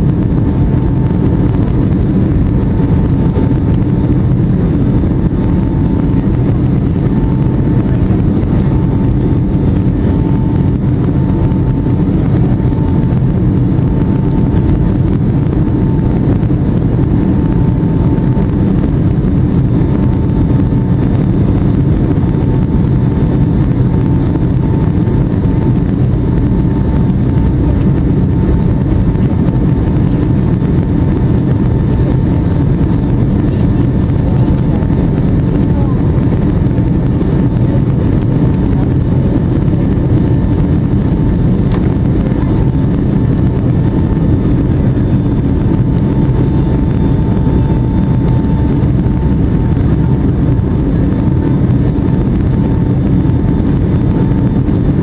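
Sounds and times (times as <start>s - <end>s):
faint wavering whine: 0.0s - 55.0s
jet engines rumbling: 0.0s - 55.0s.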